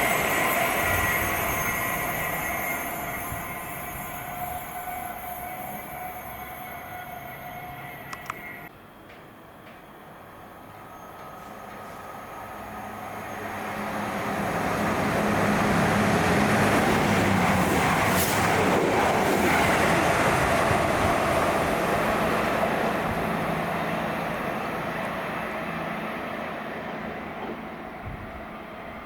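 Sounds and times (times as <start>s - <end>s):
fast passenger train passing: 0.0s - 29.0s.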